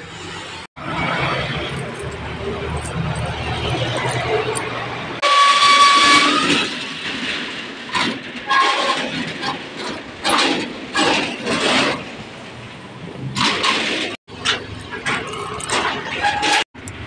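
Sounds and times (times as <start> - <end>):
metal shutter rattling and scraping: 0.9 - 17.0.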